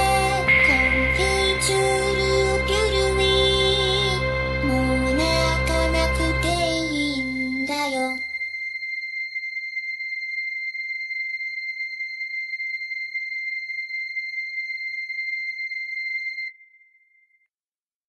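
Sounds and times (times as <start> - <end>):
high synthesizer tone: 0.0 - 16.5.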